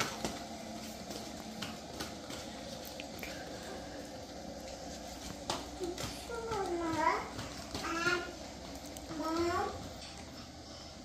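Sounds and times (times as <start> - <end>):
indoor background noise: 0.0 - 11.0.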